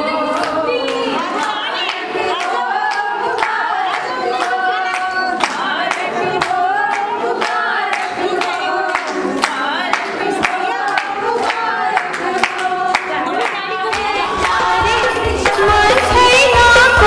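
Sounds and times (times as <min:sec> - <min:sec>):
women singing together: 0:00.0 - 0:17.0
hand-clapping: 0:00.4 - 0:17.0.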